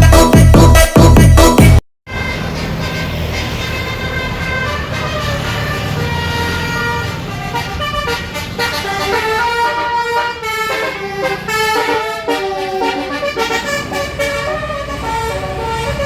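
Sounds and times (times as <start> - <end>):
bus engine rumble: 2.1 - 16.0
multi-note air horn melody: 2.1 - 16.0.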